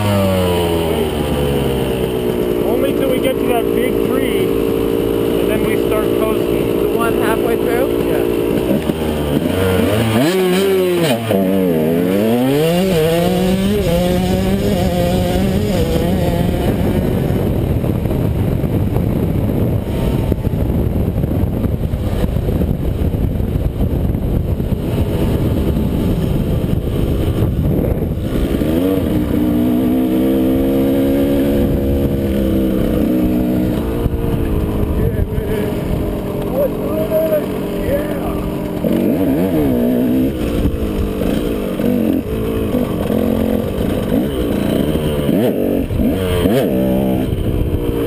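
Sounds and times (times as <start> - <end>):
dirt bike engine running hard: 0.0 - 48.0.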